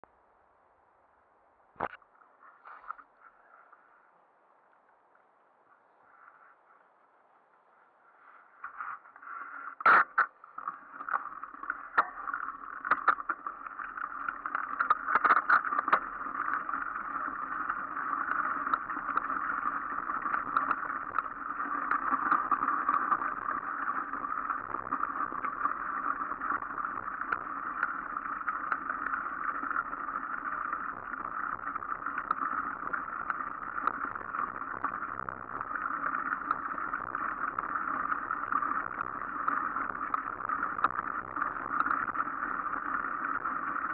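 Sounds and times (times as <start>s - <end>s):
bike tyres rolling rumble: 6.0s - 43.9s.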